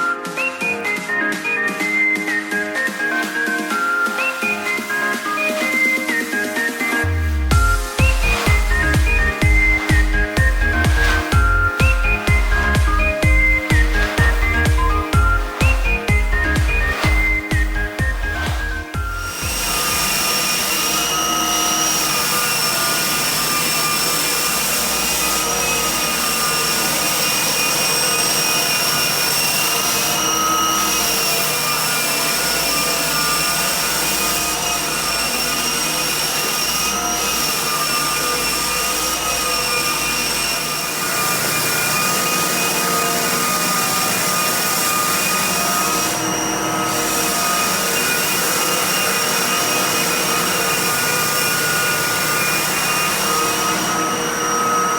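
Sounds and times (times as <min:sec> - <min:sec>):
floor machine motor whining: 0:00.0 - 0:54.9.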